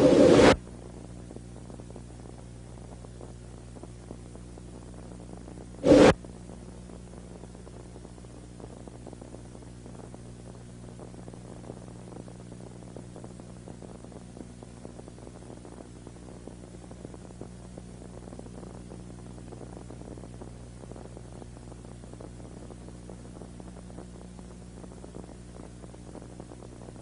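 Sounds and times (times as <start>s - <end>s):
faint crackling static: 0.0s - 27.0s
steady electrical hum: 0.0s - 27.0s.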